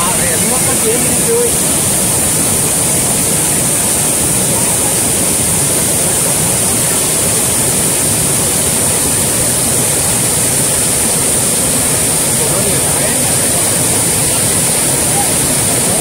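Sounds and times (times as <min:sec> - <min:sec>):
water rushing over spillway: 0:00.0 - 0:16.0.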